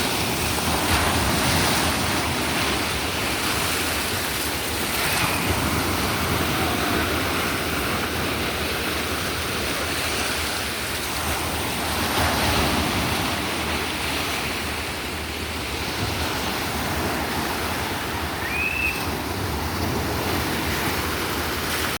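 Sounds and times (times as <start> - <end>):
sea surf washing ashore: 0.0 - 22.0.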